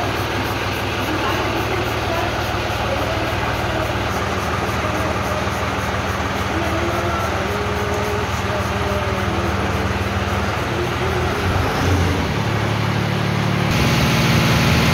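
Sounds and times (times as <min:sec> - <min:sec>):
faint voices: 0:00.0 - 0:12.4
tractor engine idling: 0:00.0 - 0:14.9.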